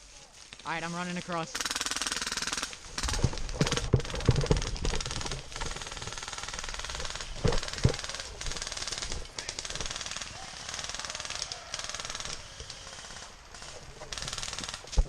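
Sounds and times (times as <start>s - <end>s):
running footsteps: 0.0s - 15.0s
airsoft gunfire rattling: 1.5s - 15.0s.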